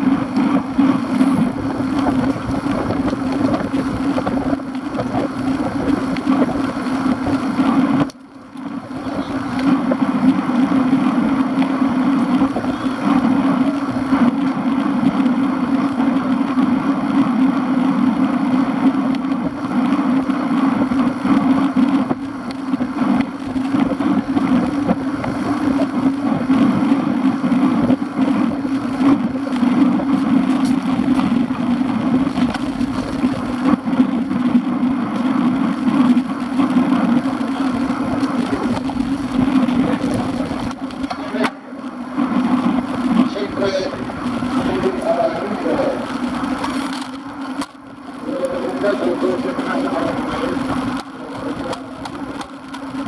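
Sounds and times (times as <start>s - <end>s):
bicycle tyre road and wind drone: 0.0s - 53.0s.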